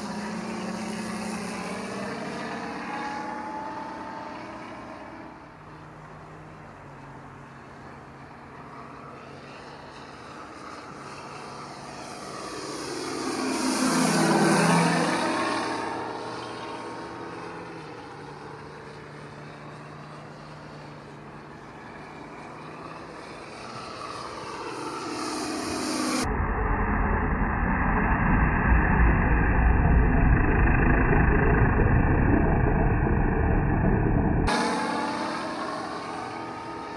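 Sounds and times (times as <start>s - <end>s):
electric motor and propeller: 0.0s - 36.9s
simulated radial engine sound: 0.0s - 36.9s.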